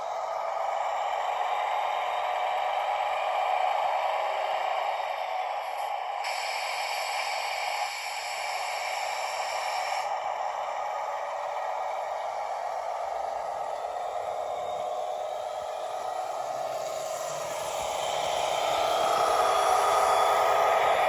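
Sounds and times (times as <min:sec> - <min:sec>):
model locomotive engine sound: 0:00.0 - 0:21.0
hiss: 0:00.2 - 0:21.0.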